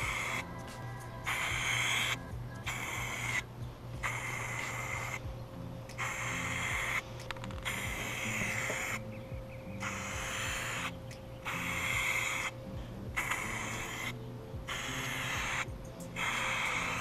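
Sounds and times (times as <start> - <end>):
spray can hissing: 0.0 - 17.0.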